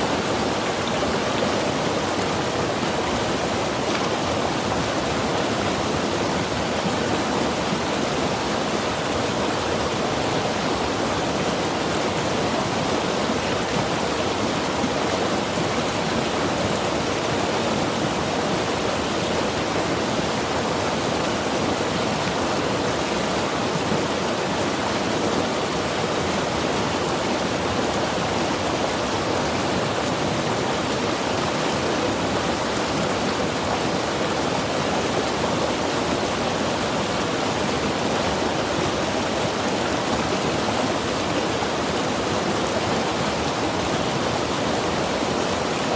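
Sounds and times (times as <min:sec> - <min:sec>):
river rushing over rocks: 0:00.0 - 0:45.9.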